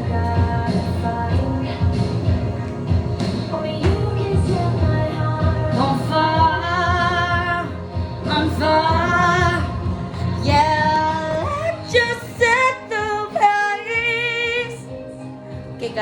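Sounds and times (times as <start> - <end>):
woman singing with vibrato: 0.0 - 15.0
pop backing track: 0.0 - 16.0.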